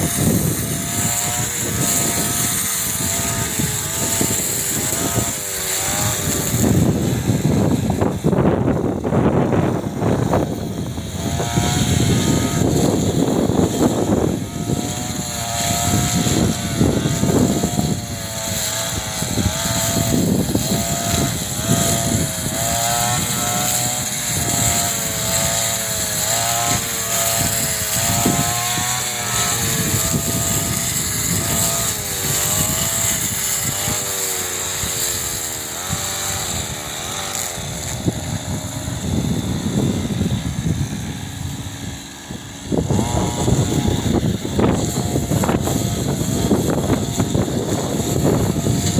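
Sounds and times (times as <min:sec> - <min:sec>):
brush cutter cutting grass: 0:00.0 - 0:48.9
wind on microphone: 0:00.0 - 0:48.9.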